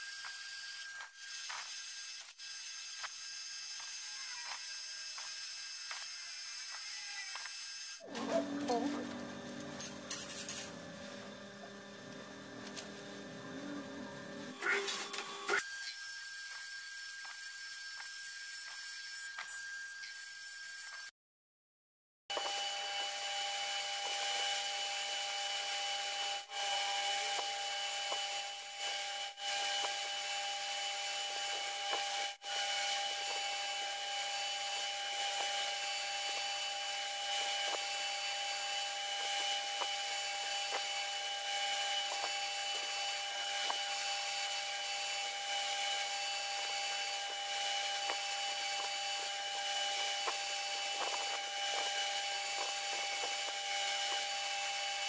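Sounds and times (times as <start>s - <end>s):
milling machine cutting metal: 0.2s - 16.0s, 22.3s - 55.0s.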